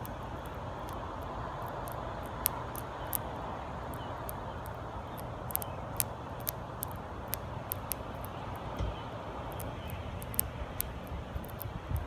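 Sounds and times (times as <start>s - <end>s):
insect mandibles crunching prey: 0.0s - 8.7s, 9.5s - 12.0s
low background hum: 0.0s - 12.0s.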